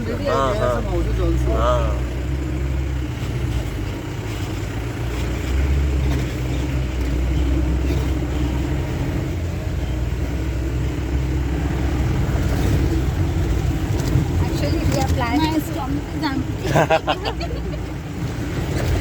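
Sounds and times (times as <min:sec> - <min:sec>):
jeep engine running: 0:00.0 - 0:19.0
road noise: 0:00.0 - 0:19.0.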